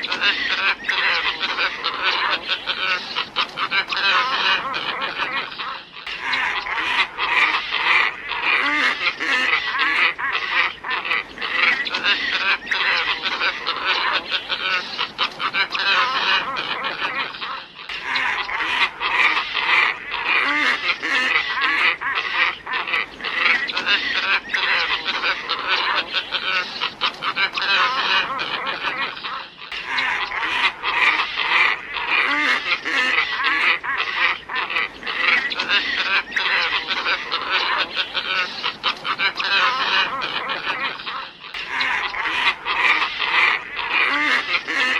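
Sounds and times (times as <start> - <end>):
ibis flock honking calls: 0.0 - 44.9.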